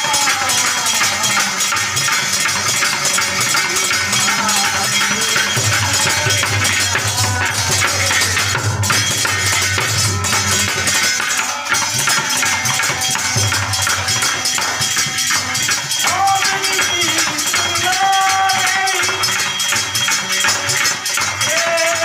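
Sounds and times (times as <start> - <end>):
man singing: 0.0 - 13.3, 14.2 - 22.0
dholak drum beating: 0.0 - 22.0
harmonium chords: 0.0 - 22.0.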